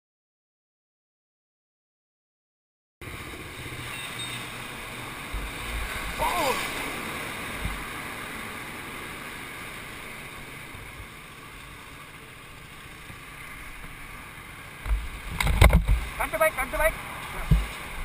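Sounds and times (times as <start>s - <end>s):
wind and road noise: 3.0s - 18.0s.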